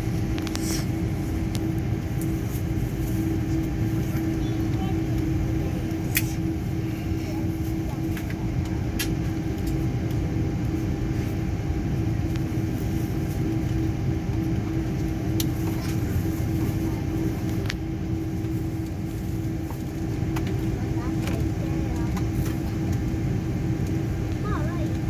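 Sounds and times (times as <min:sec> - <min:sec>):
aircraft systems hum: 0:00.0 - 0:25.0
airliner cabin rumble: 0:00.0 - 0:25.0.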